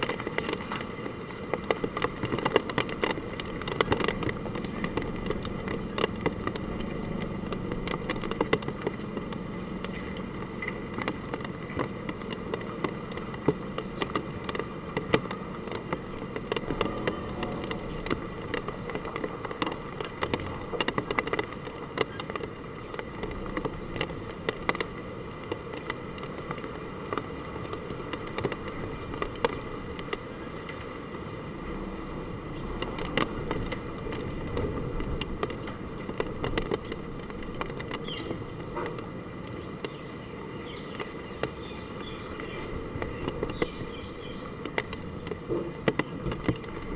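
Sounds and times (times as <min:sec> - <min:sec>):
heavy rain on hard surfaces: 0:00.0 - 0:46.9.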